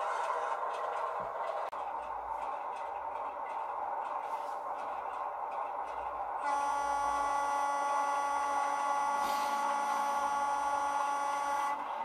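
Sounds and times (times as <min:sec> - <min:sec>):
model locomotive speaker steady tone: 0:00.0 - 0:12.0.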